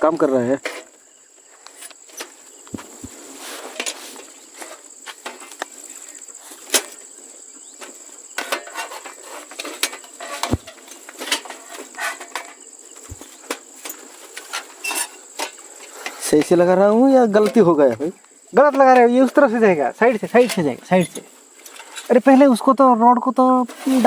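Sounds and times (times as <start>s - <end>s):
night insects trilling: 0.0s - 24.0s
camping gear clicking and knocking: 1.6s - 22.1s.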